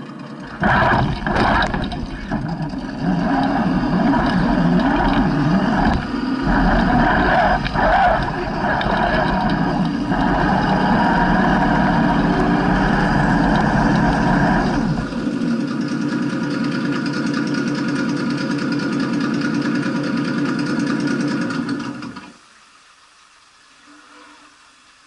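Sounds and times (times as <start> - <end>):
motor running: 0.0 - 22.4.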